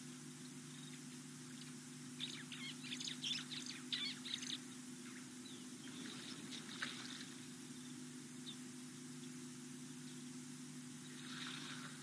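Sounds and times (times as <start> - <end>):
small birds chirping: 0.0 - 11.5
low hum and hiss: 0.0 - 12.0.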